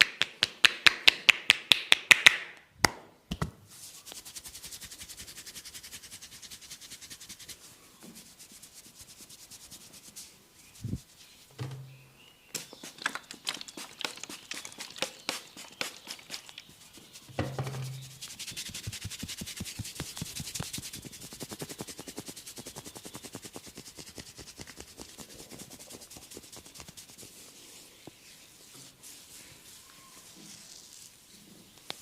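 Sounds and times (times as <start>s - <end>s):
hands rubbing body: 3.7s - 11.5s, 12.7s - 32.0s.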